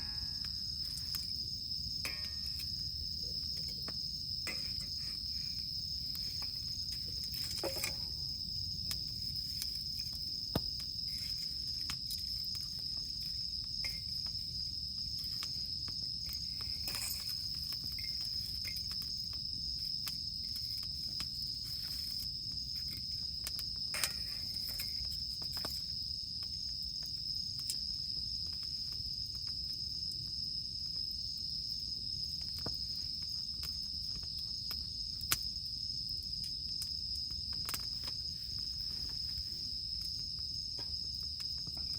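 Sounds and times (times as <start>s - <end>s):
campfire popping: 0.0s - 41.9s
cicadas droning: 0.0s - 41.9s.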